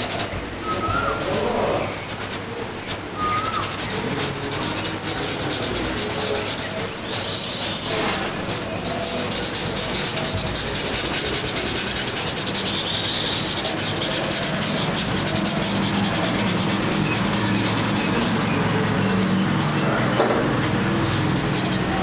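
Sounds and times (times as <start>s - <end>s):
pencil shading on paper: 0.0s - 22.0s.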